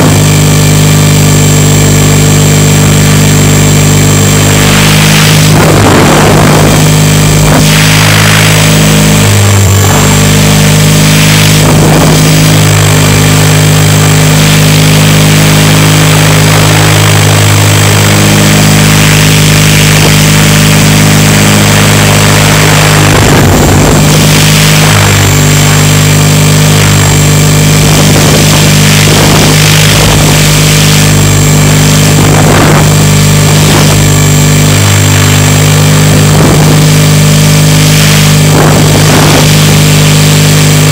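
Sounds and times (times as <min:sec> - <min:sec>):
model helicopter motor droning: 0:00.0 - 0:40.9.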